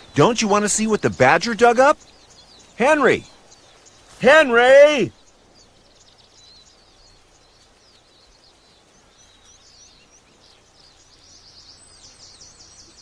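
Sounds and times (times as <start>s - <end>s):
low steady hiss: 0.0s - 13.0s
small birds chirping: 0.0s - 13.0s.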